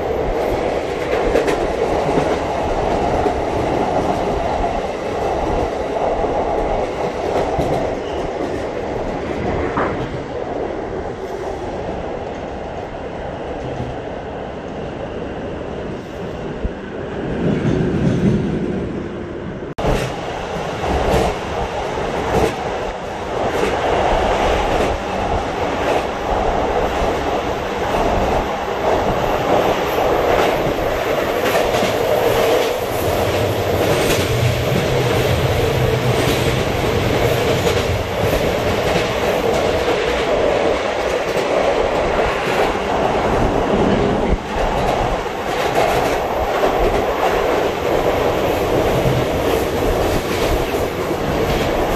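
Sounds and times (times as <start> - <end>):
train wheels rumbling on rail: 0.0 - 51.9
rail joint clicks: 0.2 - 12.8, 13.5 - 14.9, 19.8 - 51.9.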